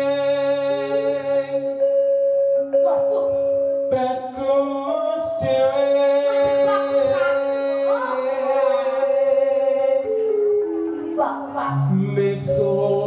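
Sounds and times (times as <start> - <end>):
person singing long sliding notes: 0.0 - 13.0
sustained instrumental accompaniment: 0.0 - 13.0.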